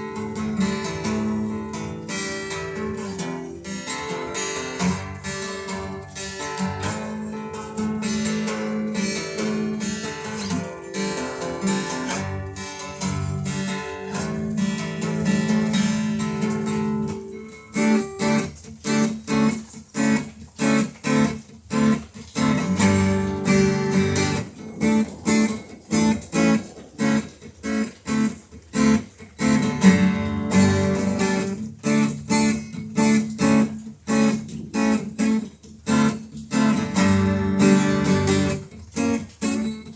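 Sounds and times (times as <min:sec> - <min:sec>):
acoustic guitar strummed chords: 0:00.0 - 0:39.9.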